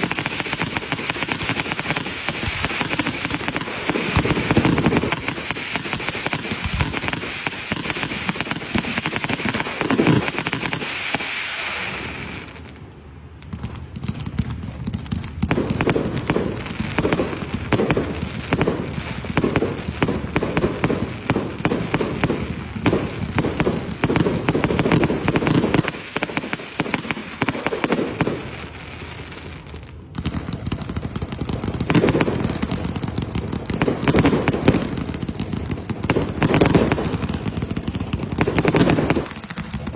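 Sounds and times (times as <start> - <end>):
firecrackers popping rapidly: 0.0 - 12.8, 13.4 - 39.9.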